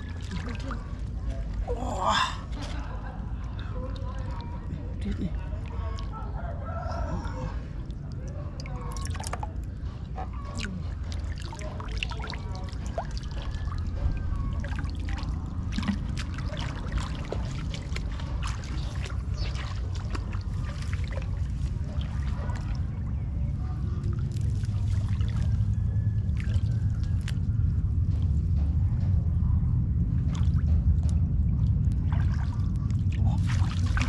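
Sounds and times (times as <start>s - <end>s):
water trickling and splashing: 0.0s - 6.1s, 7.8s - 28.5s, 30.1s - 34.0s
low rumble: 0.0s - 34.0s.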